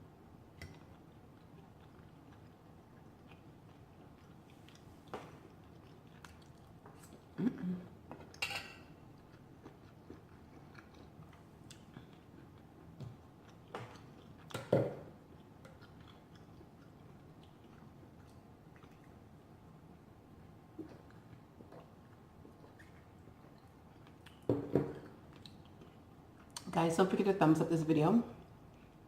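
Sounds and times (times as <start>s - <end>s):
person chewing food: 0.6s - 7.4s, 9.0s - 20.1s, 20.7s - 26.6s, 28.4s - 29.0s.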